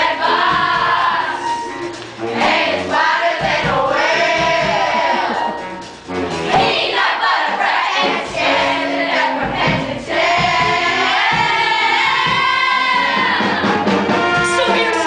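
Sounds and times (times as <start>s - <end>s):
chorus singing together: 0.0s - 15.0s.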